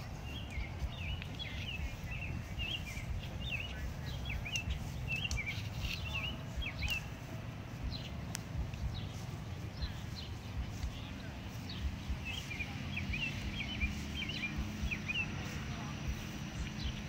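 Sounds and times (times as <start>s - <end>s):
low rumble: 0.0s - 17.0s
songbird chirping: 0.0s - 17.0s.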